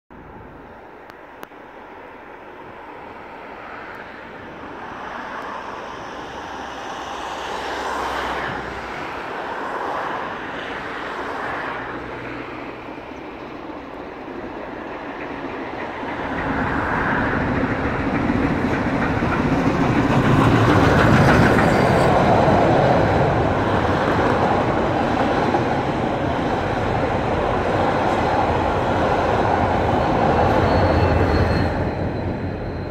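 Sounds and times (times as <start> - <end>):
rumbling wheel and rail noise: 0.1 - 32.9
steam train passing: 1.6 - 32.9.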